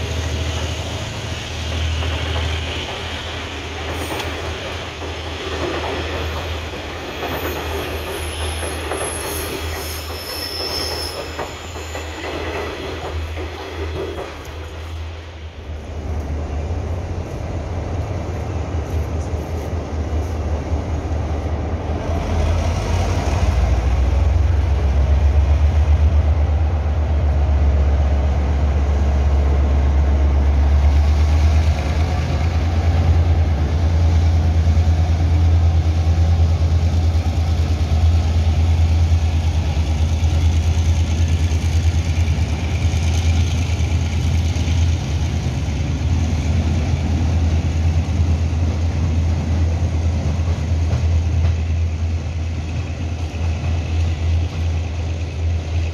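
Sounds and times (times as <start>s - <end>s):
diesel locomotive engine drone: 0.0s - 55.9s.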